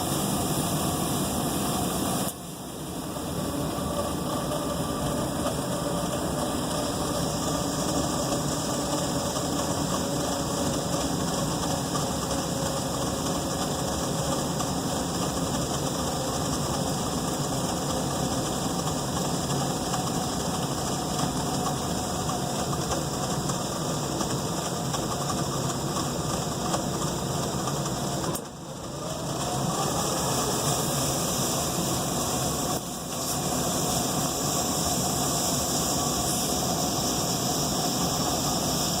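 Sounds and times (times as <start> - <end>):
blower spinning up: 0.0 - 39.0
furnace mechanical drone: 0.0 - 39.0.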